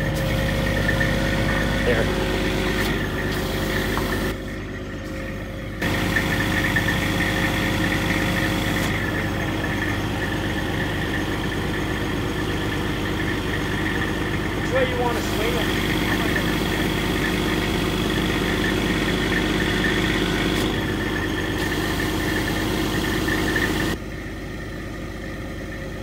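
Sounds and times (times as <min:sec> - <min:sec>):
high steady whine: 0:00.0 - 0:24.0
truck engine idling: 0:00.0 - 0:26.0.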